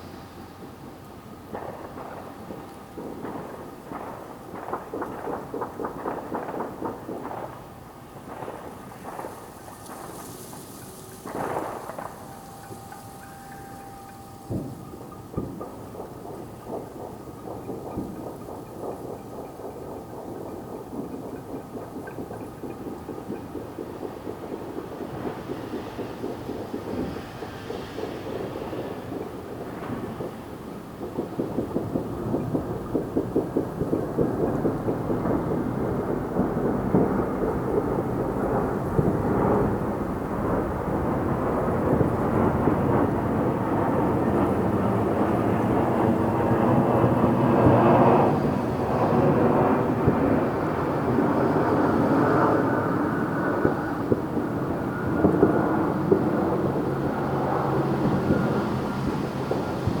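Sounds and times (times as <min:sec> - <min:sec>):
fireworks crackling and booming: 0:00.0 - 1:00.0
sharp firework bangs: 0:00.0 - 1:00.0.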